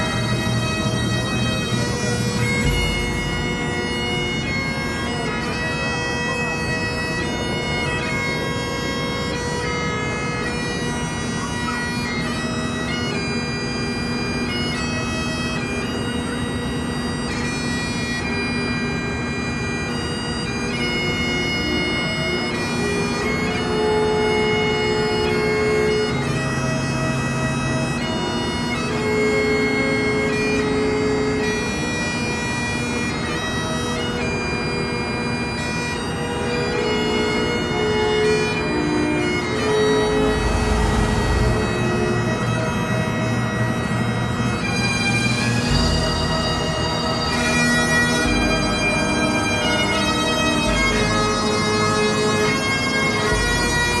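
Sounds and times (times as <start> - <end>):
bagpipe music: 0.0 - 54.0.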